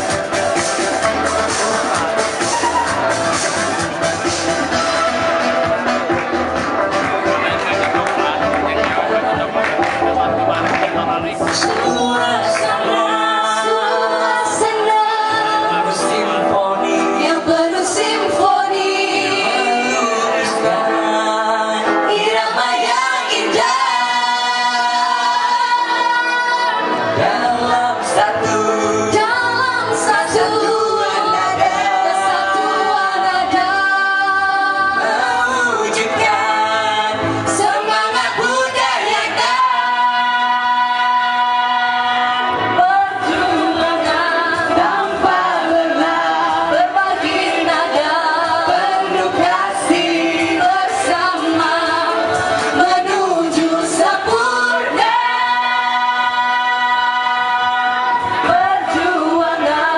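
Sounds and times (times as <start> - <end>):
group singing into microphones: 0.0 - 59.9.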